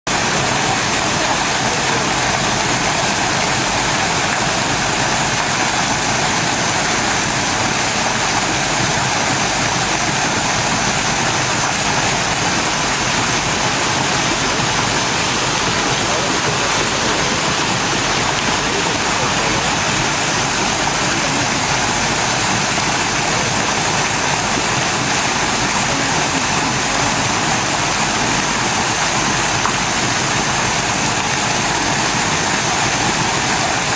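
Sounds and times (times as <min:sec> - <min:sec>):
fountain water splashing: 0:00.1 - 0:33.9.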